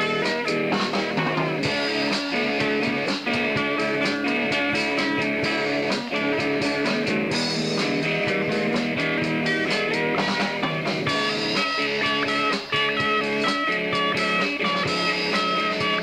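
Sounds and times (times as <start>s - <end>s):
drum kit: 0.0s - 16.0s
electric guitars: 0.0s - 16.0s.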